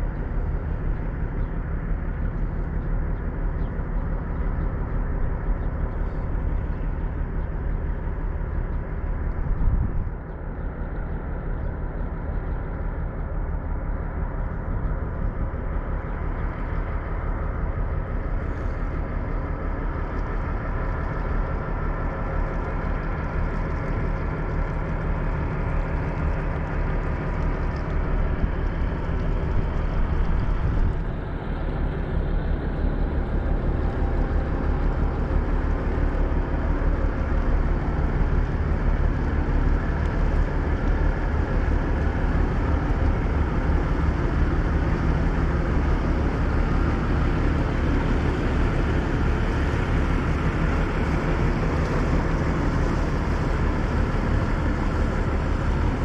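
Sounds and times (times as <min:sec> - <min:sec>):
ferry engine drone: 0:00.0 - 0:56.0.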